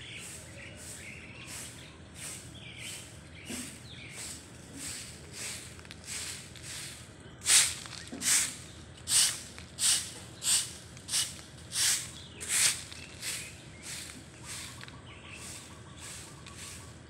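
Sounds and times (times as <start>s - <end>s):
broom sweeping stone pavement: 0.0s - 17.0s.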